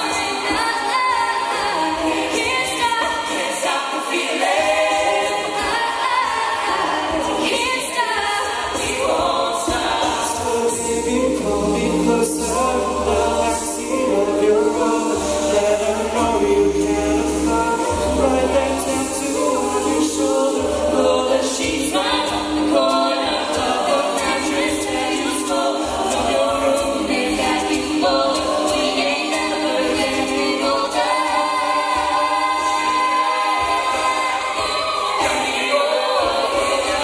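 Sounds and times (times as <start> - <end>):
a cappella group singing: 0.0 - 37.0.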